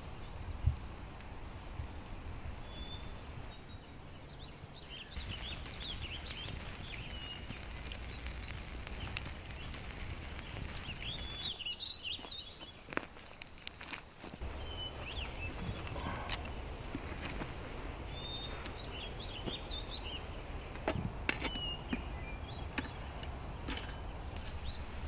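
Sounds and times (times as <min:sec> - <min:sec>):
low outdoor background noise: 0:00.0 - 0:25.0
small birds chirping: 0:01.4 - 0:25.0.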